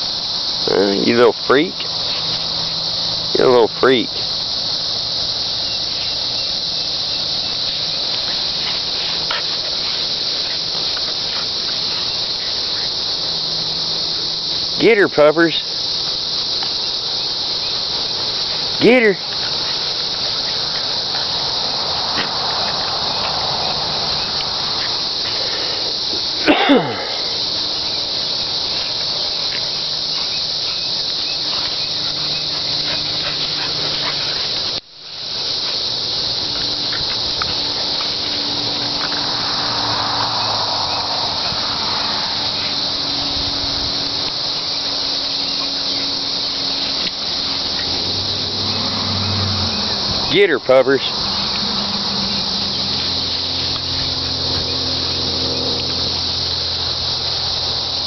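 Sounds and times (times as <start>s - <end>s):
insects chirping in grass: 0.0s - 58.0s.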